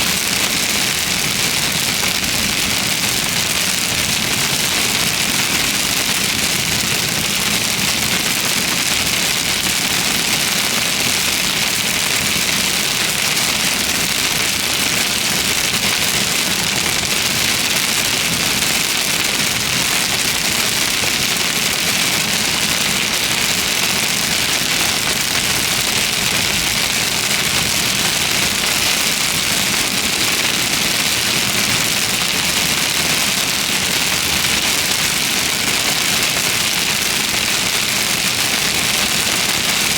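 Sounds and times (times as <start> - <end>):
heavy rain hitting a car: 0.0 - 39.9.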